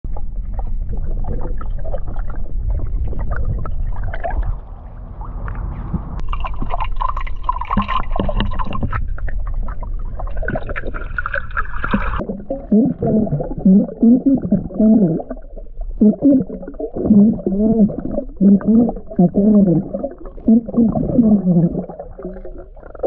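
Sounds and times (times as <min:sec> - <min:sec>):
muffled water gurgling: 0:00.0 - 0:23.0.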